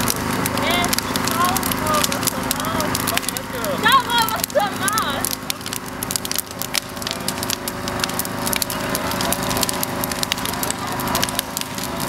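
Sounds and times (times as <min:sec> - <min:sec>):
fire crackling and popping: 0:00.0 - 0:12.0
steady low hum: 0:00.0 - 0:12.0.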